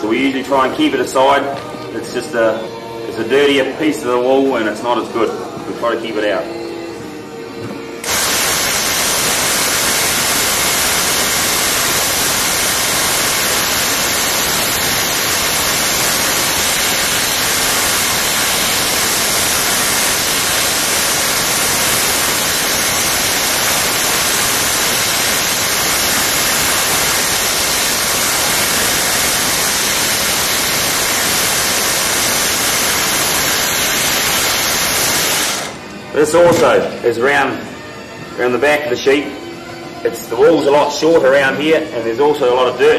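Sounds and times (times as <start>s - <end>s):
loud static hiss: 7.2s - 42.9s.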